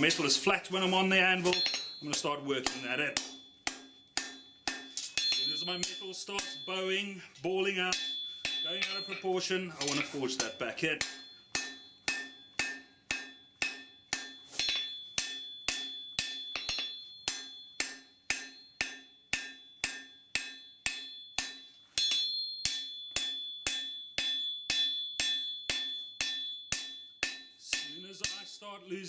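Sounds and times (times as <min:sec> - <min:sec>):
hammer striking steel on anvil: 0:00.0 - 0:07.0, 0:07.7 - 0:28.6.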